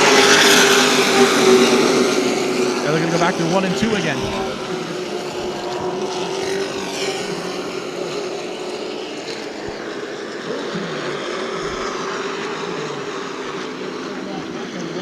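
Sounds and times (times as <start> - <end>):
race truck engines passing: 0.0 - 15.0.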